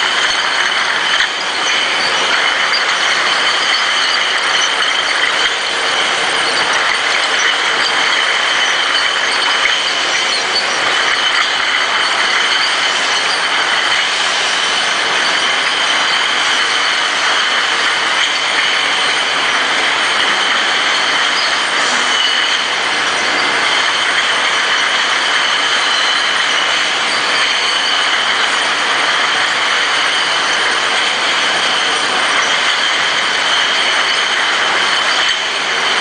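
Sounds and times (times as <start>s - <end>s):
high ringing: 0.0s - 35.4s
glass bottles clinking: 0.0s - 36.0s
machinery noise: 0.0s - 36.0s.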